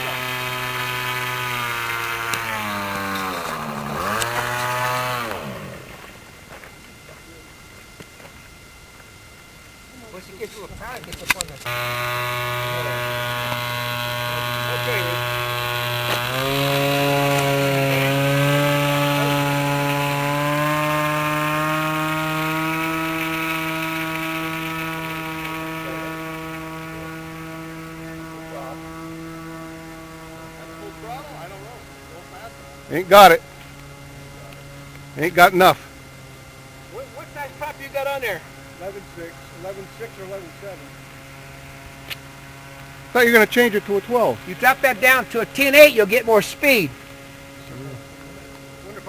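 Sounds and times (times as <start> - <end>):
model airplane engine running: 0.0 - 49.0.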